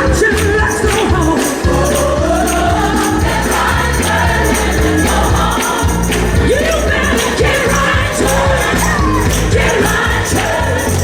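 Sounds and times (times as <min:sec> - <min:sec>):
gospel choir singing: 0:00.0 - 0:11.0
instrumental accompaniment with beat: 0:00.0 - 0:11.0.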